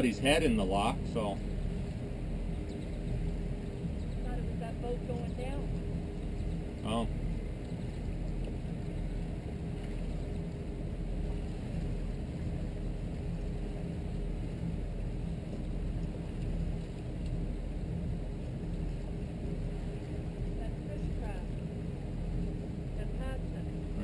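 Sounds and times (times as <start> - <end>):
boat engines rumbling: 0.0 - 24.0
faint steady hum: 0.0 - 24.0.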